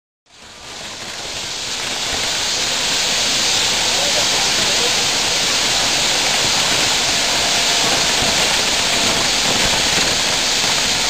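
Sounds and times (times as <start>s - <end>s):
fireworks bursts and crackles: 0.3s - 11.0s.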